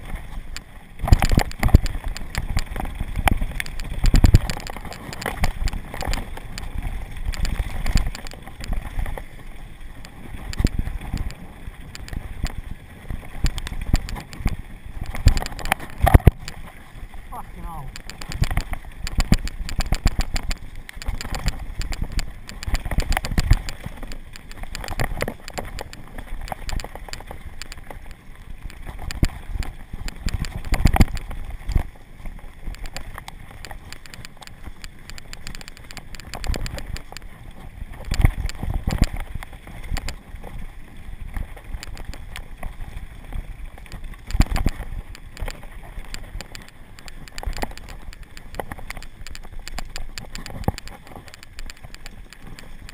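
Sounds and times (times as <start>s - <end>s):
tyres rolling over dirt and stones: 0.0s - 52.9s.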